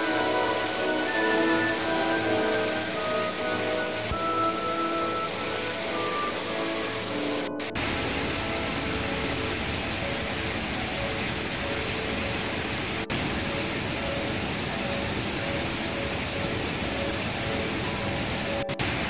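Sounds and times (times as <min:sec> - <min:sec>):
waterfall and rapids rushing: 0:00.0 - 0:19.0.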